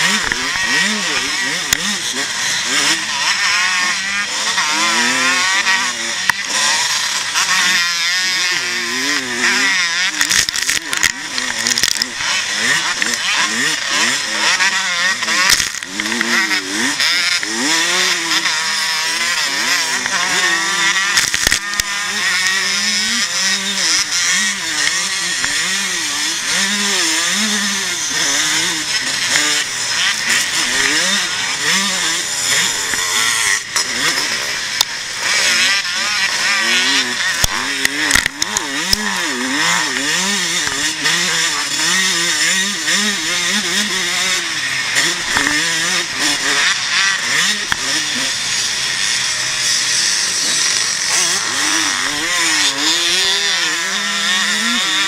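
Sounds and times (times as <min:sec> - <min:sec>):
motocross motorcycle engine racing: 0:00.0 - 0:55.0
other motorcycles nearby: 0:00.0 - 0:55.0.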